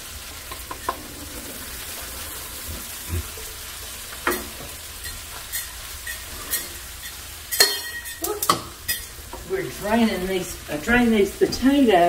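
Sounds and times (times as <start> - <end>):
cabbage sizzling in a frying pan: 0.0 - 12.0.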